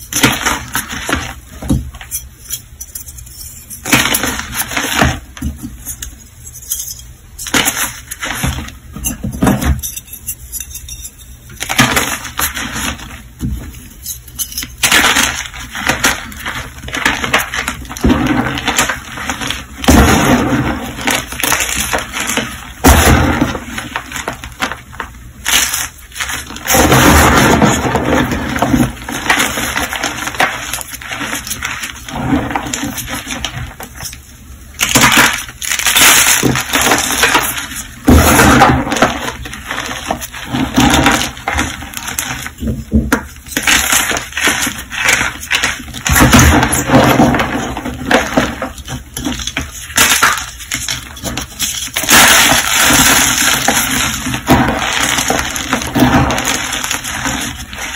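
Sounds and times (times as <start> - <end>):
hands crushing chalk blocks: 0.0 - 2.2, 7.4 - 9.7, 11.5 - 13.7, 14.3 - 34.2, 34.8 - 57.9.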